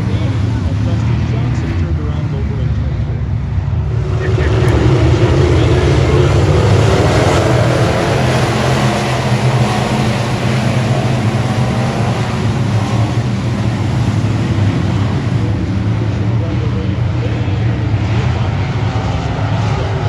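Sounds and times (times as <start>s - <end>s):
noisy rush: 0.0s - 20.0s
race car engine at speed: 0.0s - 20.0s.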